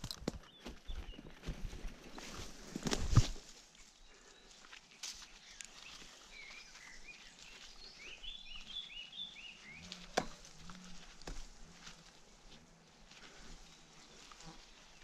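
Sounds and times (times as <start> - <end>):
rope and dry leaves rustling: 0.0 - 15.0
songbird chirping: 0.0 - 15.0.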